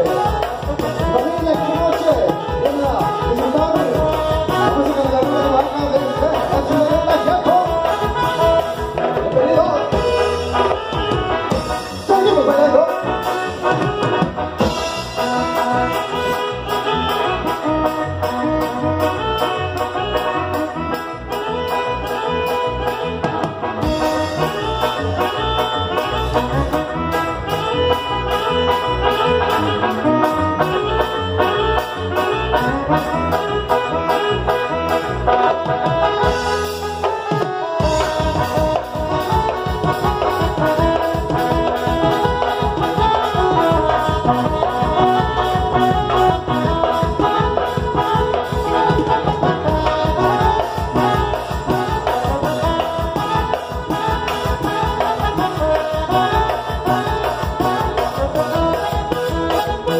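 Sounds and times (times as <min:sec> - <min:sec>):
brass band music: 0:00.0 - 0:59.9
trumpets and trombones: 0:00.0 - 0:59.9.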